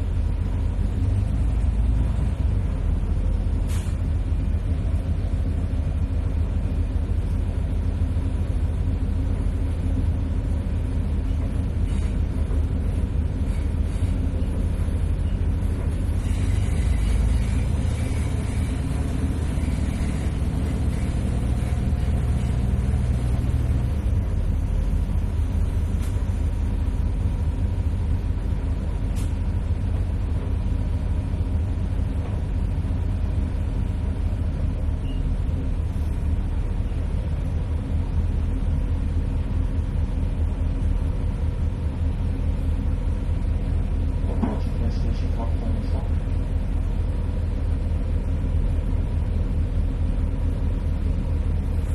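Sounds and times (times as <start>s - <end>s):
road noise: 0.0s - 51.9s
vehicle engine rumble: 0.0s - 51.9s.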